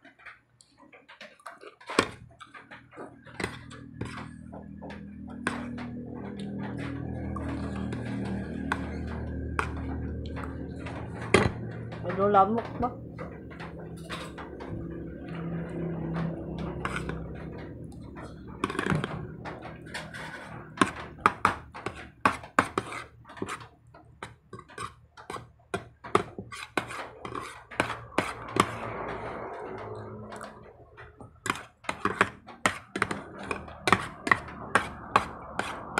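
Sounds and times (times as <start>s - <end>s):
metal spoon scraping a plastic plate: 1.4s - 35.9s.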